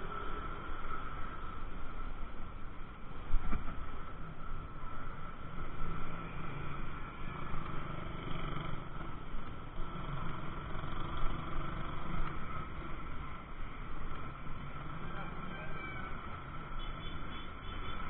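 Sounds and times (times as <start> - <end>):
car and motorcycle engines: 0.0 - 18.0.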